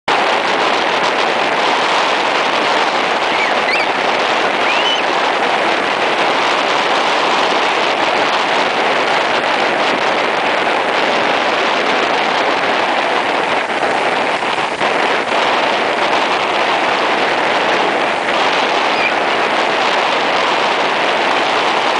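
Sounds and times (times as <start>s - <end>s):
surf breaking on beach: 0.1s - 21.9s
wind buffeting microphone: 0.1s - 21.9s.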